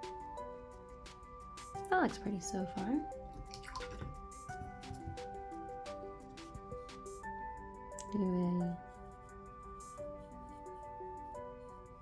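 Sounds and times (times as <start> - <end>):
background music with soft beat: 0.0 - 12.0.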